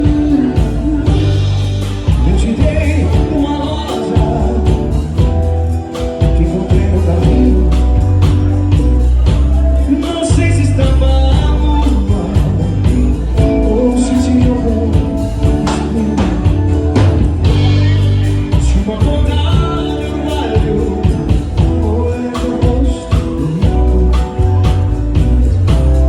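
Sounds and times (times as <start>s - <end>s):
person singing: 0.0s - 26.0s
steady percussion beat: 0.0s - 26.0s
sustained bass: 0.0s - 26.0s.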